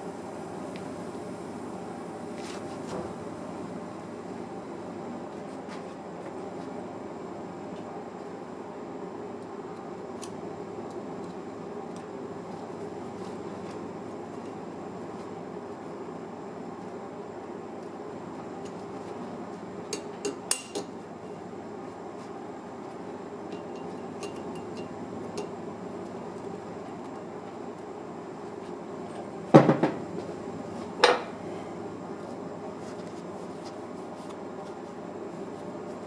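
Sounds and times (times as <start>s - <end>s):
steady background hum: 0.0s - 36.0s.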